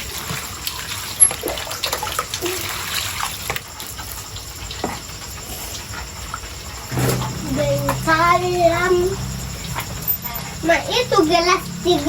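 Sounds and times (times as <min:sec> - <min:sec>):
running water hiss: 0:00.0 - 0:12.0.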